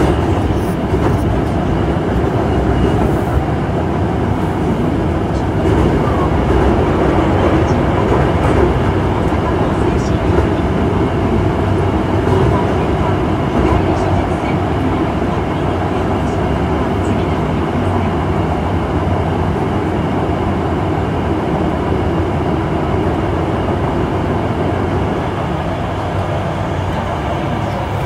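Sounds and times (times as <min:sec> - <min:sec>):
rumble of wheels on rail: 0:00.0 - 0:28.0.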